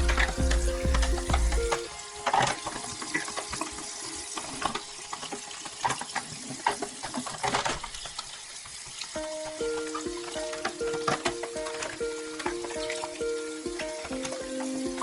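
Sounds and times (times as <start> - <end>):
water running and splashing: 0.0 - 15.0
crackles and small clicks: 1.5 - 15.0.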